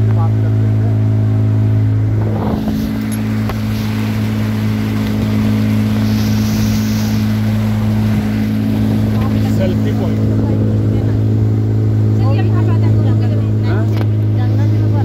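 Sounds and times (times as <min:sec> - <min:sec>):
motorboat engine hum: 0:00.0 - 0:15.0
water rushing in boat wake: 0:00.0 - 0:15.0.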